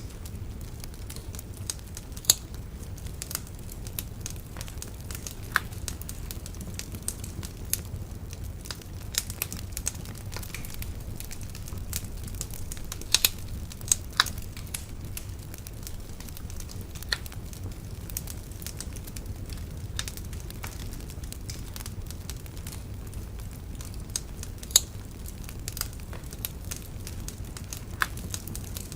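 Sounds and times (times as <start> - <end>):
bonfire crackling and popping: 0.0 - 28.9
low fire rumble: 0.0 - 28.9.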